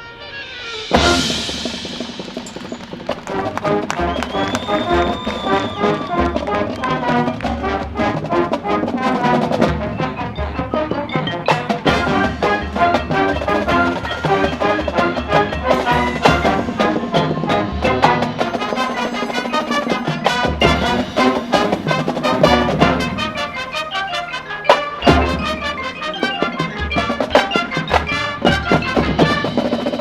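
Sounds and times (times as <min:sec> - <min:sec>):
marching band playing: 0:00.0 - 0:30.0
drum and percussion hits: 0:00.8 - 0:30.0.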